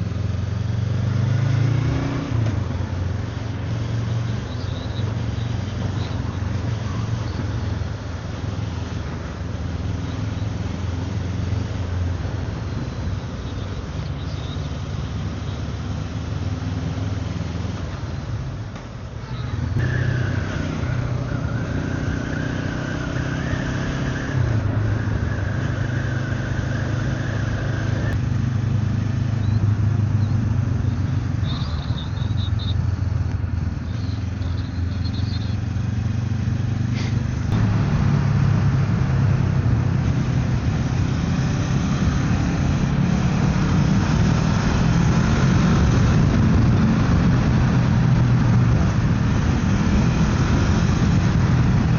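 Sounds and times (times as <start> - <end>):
rushing wind: 0.0 - 34.4, 35.5 - 51.9.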